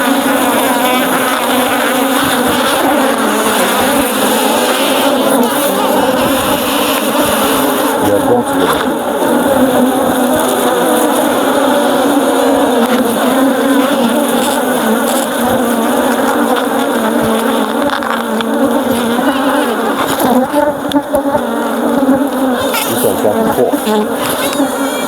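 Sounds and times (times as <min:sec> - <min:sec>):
bees buzzing: 0:00.0 - 0:25.0.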